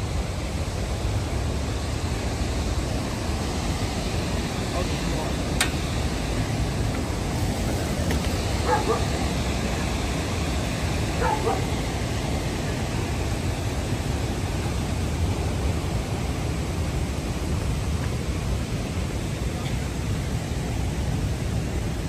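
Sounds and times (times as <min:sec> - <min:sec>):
river and waterfall roaring: 0:00.0 - 0:22.0.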